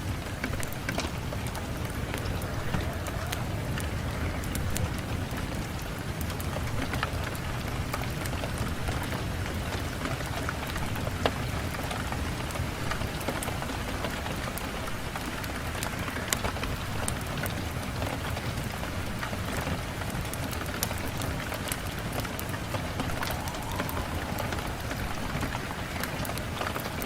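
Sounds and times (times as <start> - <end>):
rain on a window: 0.0 - 27.0.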